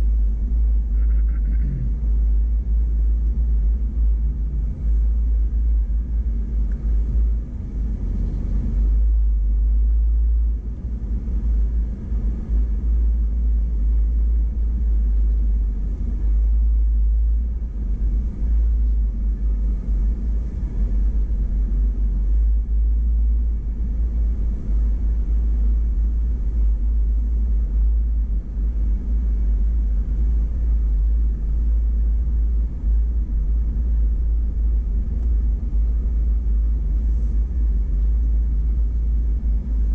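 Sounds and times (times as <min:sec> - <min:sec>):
off-road vehicle low rumble: 0:00.0 - 0:39.9.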